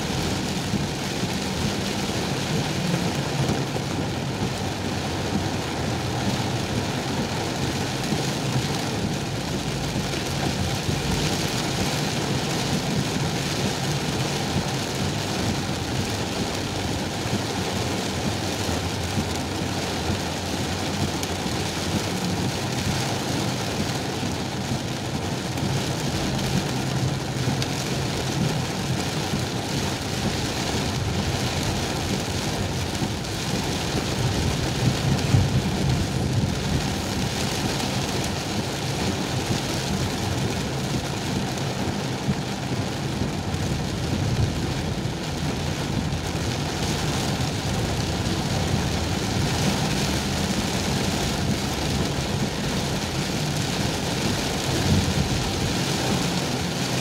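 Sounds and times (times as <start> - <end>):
car moving hum: 0.0 - 57.0
heavy rain on car roof: 0.0 - 57.0.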